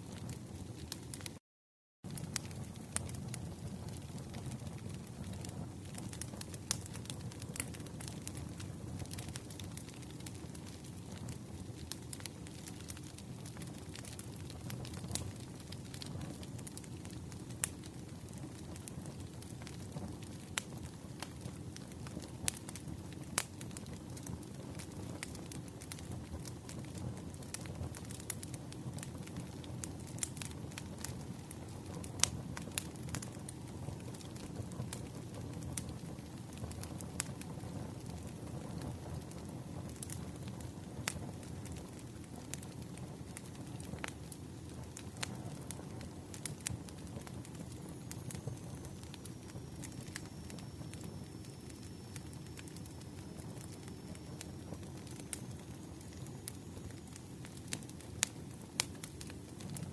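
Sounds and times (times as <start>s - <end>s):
fire popping: 0.0s - 1.4s, 2.1s - 59.9s
flames rumbling: 0.0s - 1.4s, 2.1s - 59.9s
wood fire crackling: 0.0s - 1.4s, 2.1s - 59.9s.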